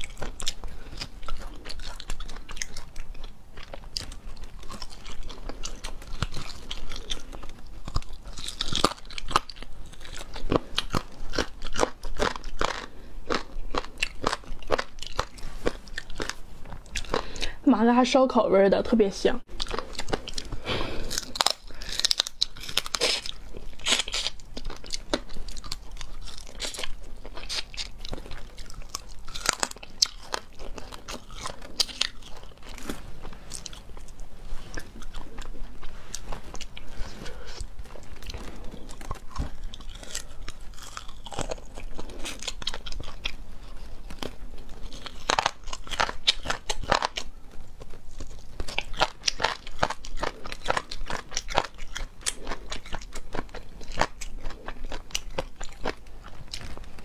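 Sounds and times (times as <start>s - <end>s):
crunching and chewing: 0.0s - 17.6s, 19.5s - 57.0s.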